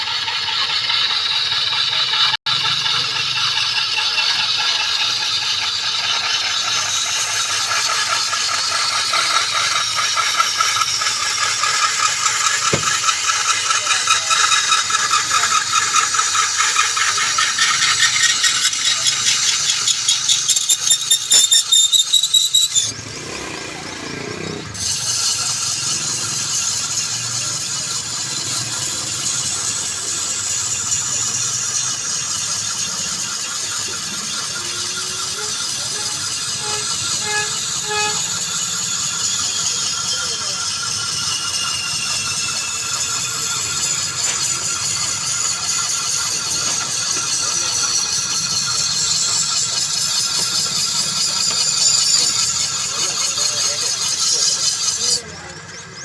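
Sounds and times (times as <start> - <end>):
power tool rasping on steel: 0.0 - 56.0.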